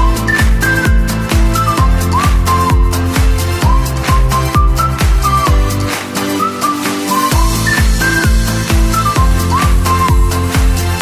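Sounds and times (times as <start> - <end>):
kick drum beat: 0.0 - 5.9, 7.3 - 11.0
bass line: 0.0 - 11.0
high whistle-like synth melody: 0.0 - 11.0.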